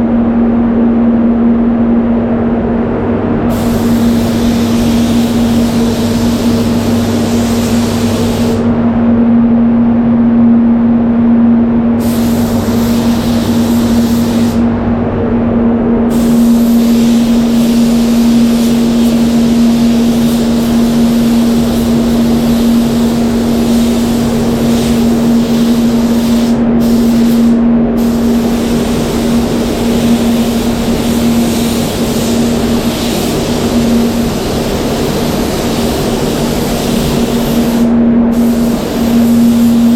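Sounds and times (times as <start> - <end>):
extraction fans humming: 0.0 - 39.9.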